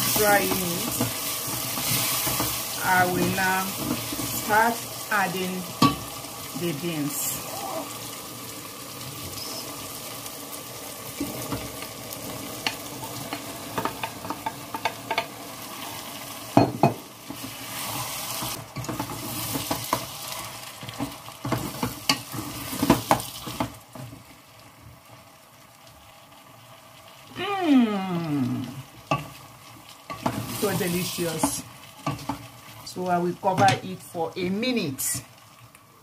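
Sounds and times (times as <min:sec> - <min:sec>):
sizzling in oil: 0:00.0 - 0:36.0.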